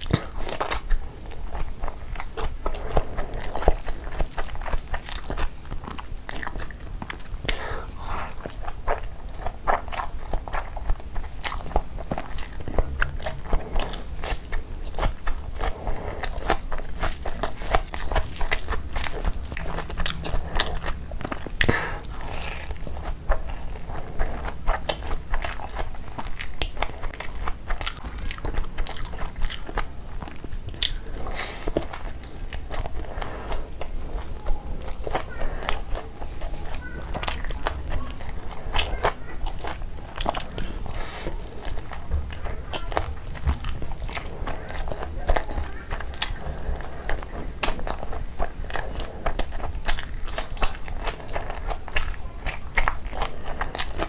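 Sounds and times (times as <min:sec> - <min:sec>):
person chewing with lip-smacking: 0:00.0 - 0:54.0.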